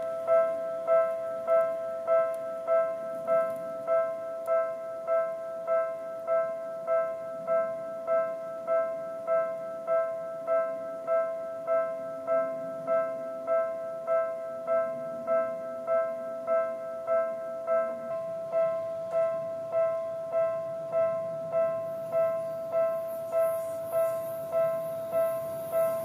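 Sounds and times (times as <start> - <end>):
faint train hiss: 0.0 - 26.0
level-crossing alarm bell: 0.0 - 26.0.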